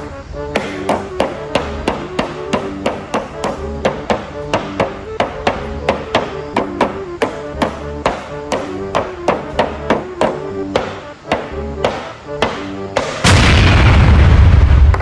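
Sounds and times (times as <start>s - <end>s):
music with sharp percussive beat: 0.5s - 13.3s.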